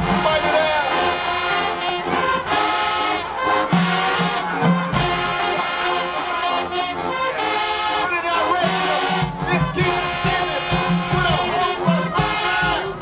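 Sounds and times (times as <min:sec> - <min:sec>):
brass chords: 0:00.0 - 0:13.0
marching band playing: 0:00.0 - 0:13.0.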